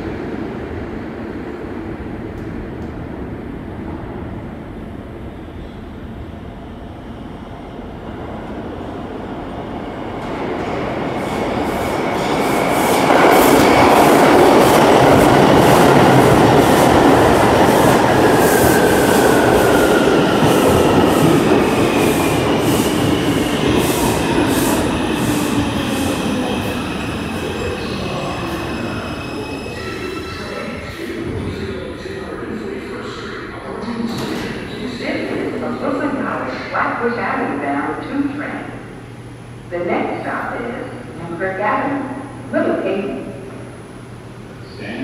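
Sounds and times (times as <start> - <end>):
subway train rumble: 0.0 - 45.0.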